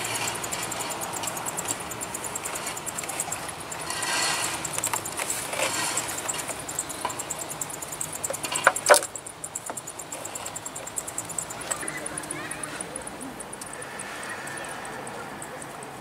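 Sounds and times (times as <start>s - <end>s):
sharp clatter: 0.0s - 16.0s.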